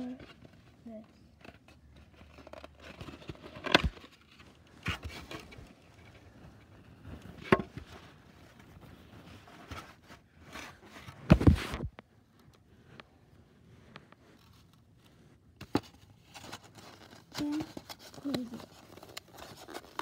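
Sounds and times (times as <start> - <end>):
rubbing and handling noise: 0.0 - 20.0.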